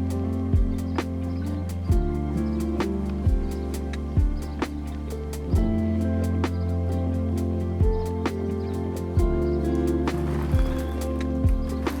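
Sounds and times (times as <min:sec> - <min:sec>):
held music chords: 0:00.0 - 0:12.0
soft low drum beat: 0:00.0 - 0:12.0.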